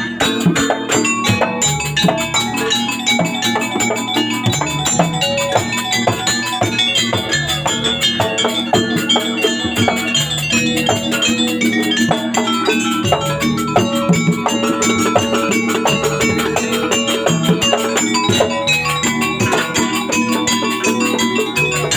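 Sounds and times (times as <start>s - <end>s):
drums: 0.0s - 21.9s
fast high ticking: 0.0s - 21.9s
metal pitched percussion: 0.0s - 21.9s.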